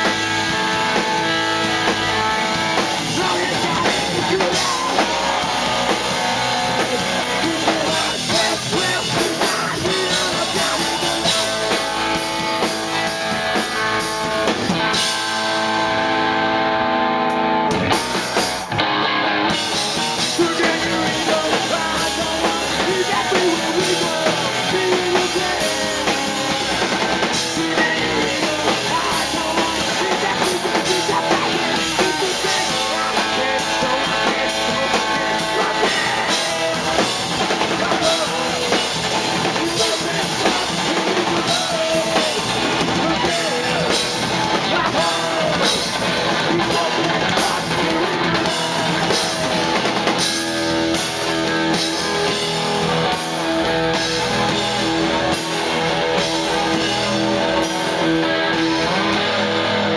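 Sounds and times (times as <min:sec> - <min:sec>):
person singing: 0:00.0 - 0:16.0, 0:19.5 - 0:59.9
drum kit: 0:00.0 - 0:59.9
electric guitars: 0:00.0 - 0:59.9.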